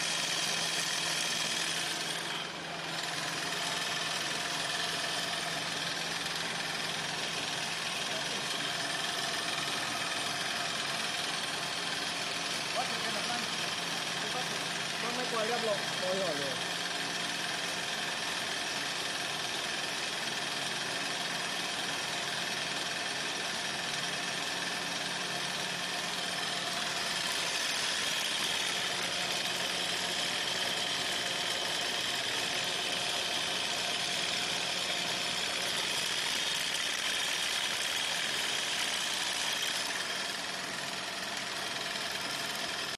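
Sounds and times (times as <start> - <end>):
machine running with high whine: 0.0 - 42.9.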